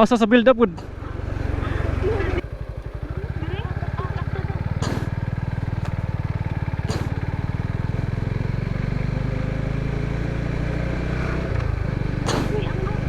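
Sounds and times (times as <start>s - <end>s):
motorcycle engine at low speed: 0.0s - 13.0s.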